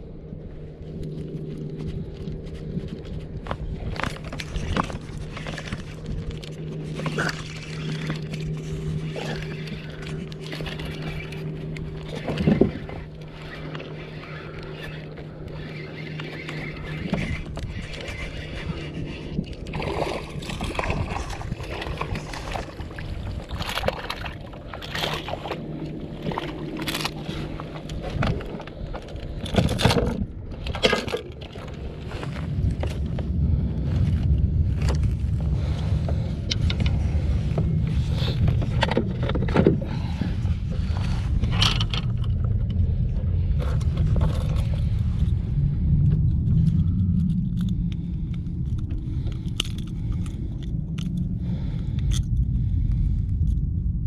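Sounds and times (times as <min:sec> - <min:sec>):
low rumble: 0:00.0 - 0:54.0
steady low hum: 0:00.0 - 0:54.0
water sloshing against hull: 0:00.0 - 0:54.0
gear knocks and clicks: 0:00.8 - 0:54.0.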